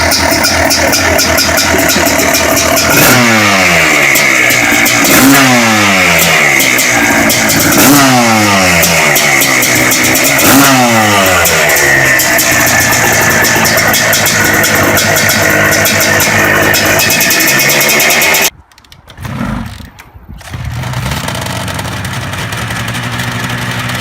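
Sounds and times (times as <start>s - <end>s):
two-stroke motorcycle engine revving: 0.0s - 18.5s, 19.2s - 24.0s.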